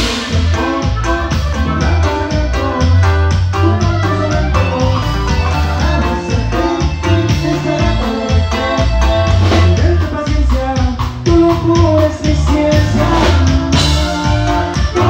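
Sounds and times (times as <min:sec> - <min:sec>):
band playing live: 0:00.0 - 0:15.0
even drum beat: 0:00.0 - 0:15.0
steady bass line: 0:00.0 - 0:15.0.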